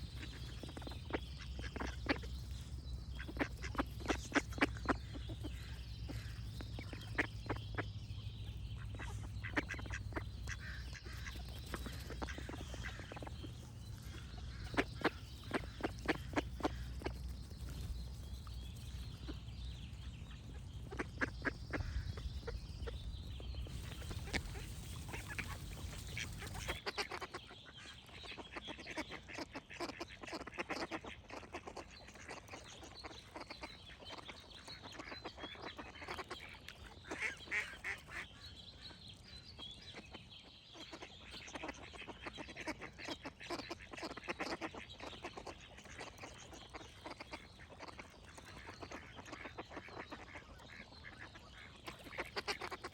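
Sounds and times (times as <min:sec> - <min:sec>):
ducks quacking: 0:03.1 - 0:08.0, 0:08.8 - 0:17.3, 0:20.3 - 0:23.0, 0:23.6 - 0:38.3, 0:40.8 - 0:52.9.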